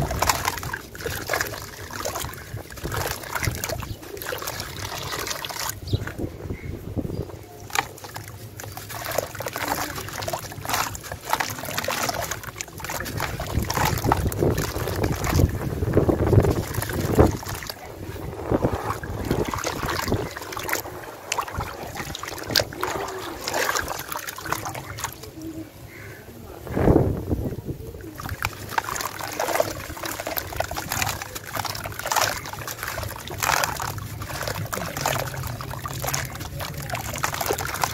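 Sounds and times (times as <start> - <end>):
water sloshing: 0.0 - 26.1, 27.4 - 37.9.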